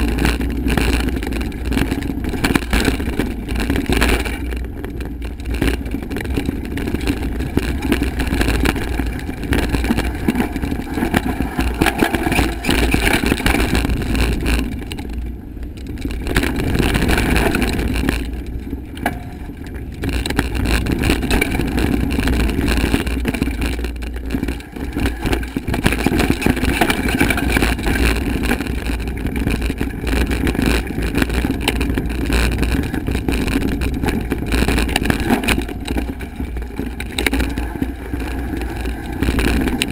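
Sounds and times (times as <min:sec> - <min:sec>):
bike rattling over bumps: 0:00.0 - 0:39.9
tyre rumble: 0:00.0 - 0:39.9.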